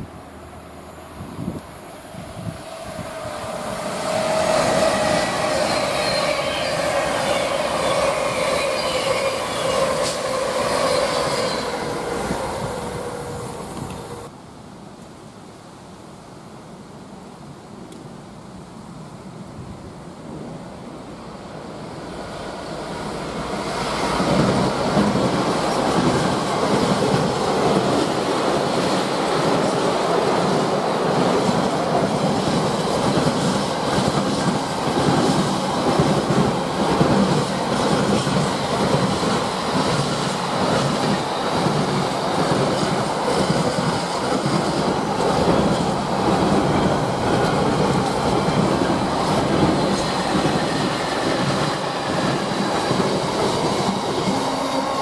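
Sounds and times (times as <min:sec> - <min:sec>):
train wheels rumbling on rail: 0:01.2 - 0:14.3, 0:20.1 - 0:55.0.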